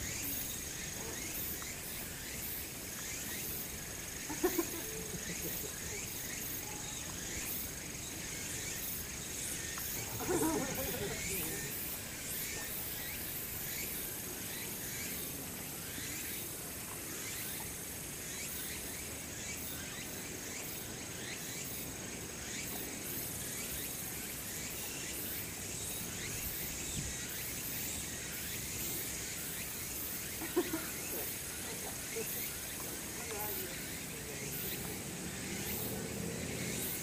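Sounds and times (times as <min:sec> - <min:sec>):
constant background noise: 0:00.0 - 0:37.0
insect chorus chirping: 0:00.0 - 0:37.0.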